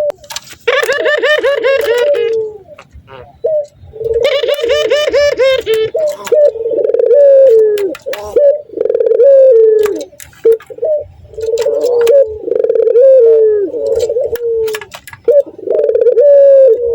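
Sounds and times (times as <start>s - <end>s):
dove laughing coo: 0.0s - 16.9s.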